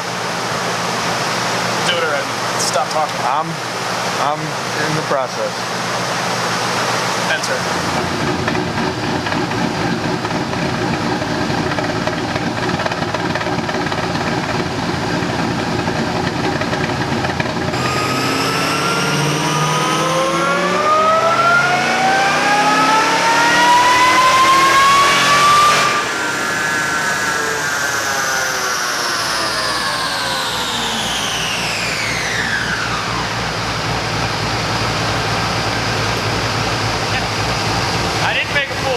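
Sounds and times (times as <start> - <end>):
car engine revving on dyno: 0.0 - 38.9.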